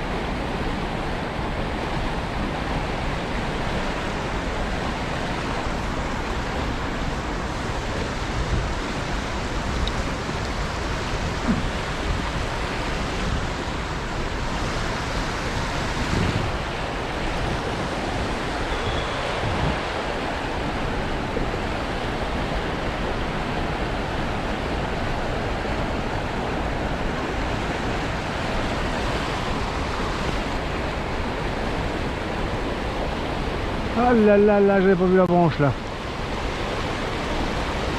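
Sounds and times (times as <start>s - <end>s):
river water rushing over riffles: 0.0s - 37.9s.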